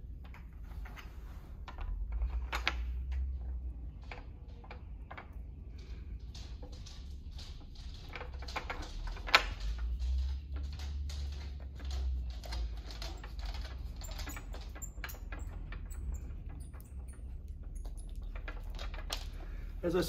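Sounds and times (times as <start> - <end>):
clicks and scrapes of bolts: 0.0 - 19.8.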